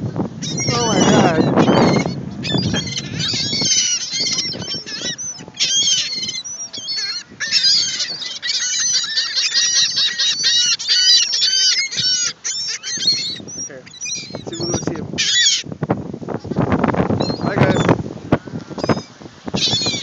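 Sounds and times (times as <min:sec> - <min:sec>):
seagulls squawking: 0:00.4 - 0:15.7, 0:17.2 - 0:20.0.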